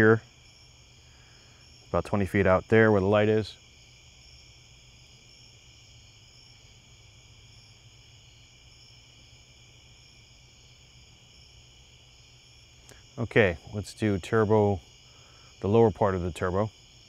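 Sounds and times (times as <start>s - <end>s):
chorus of night insects: 0.0s - 17.0s
high insect chirp: 0.0s - 17.0s.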